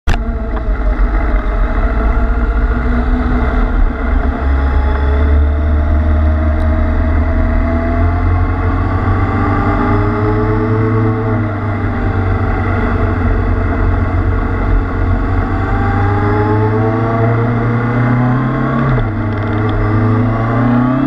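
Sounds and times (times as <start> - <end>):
low rumble of wind noise: 0.1 - 21.0
motorcycle engine running: 0.1 - 21.0.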